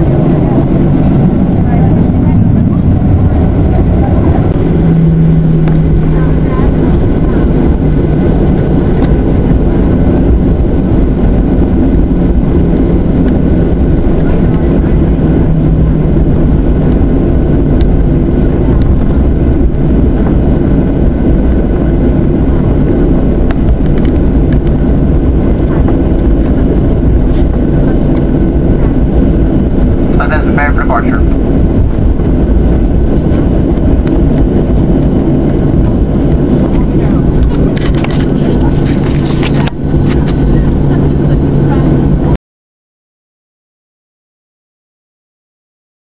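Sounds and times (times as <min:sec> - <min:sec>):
airplane cabin engine rumble: 0:00.0 - 0:42.4.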